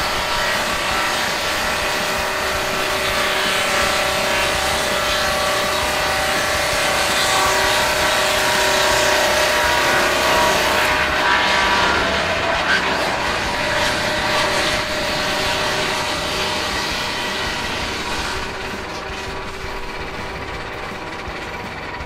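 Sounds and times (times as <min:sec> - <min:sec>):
circular saw cutting log: 0:00.0 - 0:22.0.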